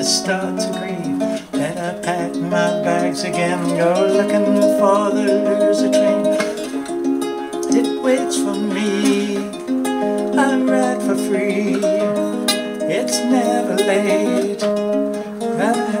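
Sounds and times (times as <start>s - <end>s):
ukulele melody: 0.0s - 16.0s.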